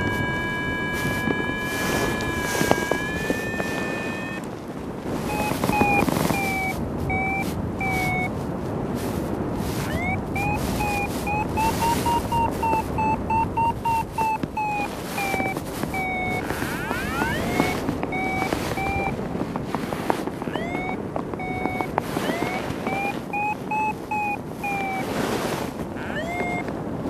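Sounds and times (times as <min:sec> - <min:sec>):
variometer beeping: 0:00.0 - 0:04.5, 0:05.1 - 0:08.3, 0:09.8 - 0:26.8
wind rushing past microphone: 0:00.0 - 0:27.0.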